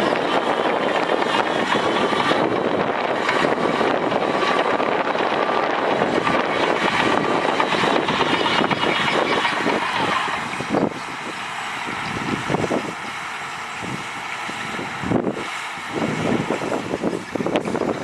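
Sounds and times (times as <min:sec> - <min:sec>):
heavy diesel machinery working: 0:00.0 - 0:18.0.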